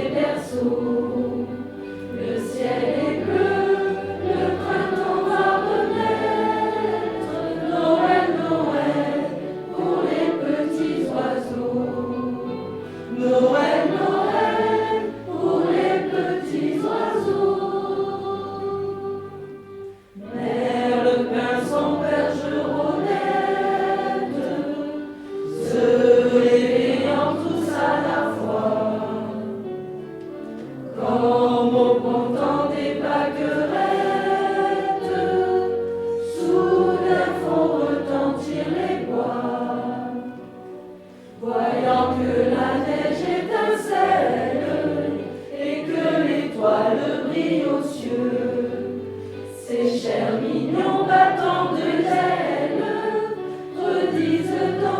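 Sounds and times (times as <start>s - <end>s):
choir singing: 0.0s - 54.9s
instrumental accompaniment: 0.0s - 54.9s.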